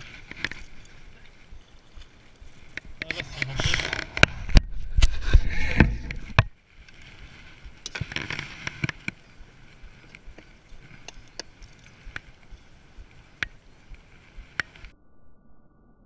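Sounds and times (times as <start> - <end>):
rustling: 0.0 - 14.9.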